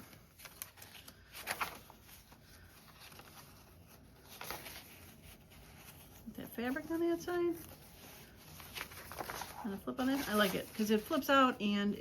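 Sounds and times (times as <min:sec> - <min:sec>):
paper rustling and sliding: 0:00.0 - 0:11.5.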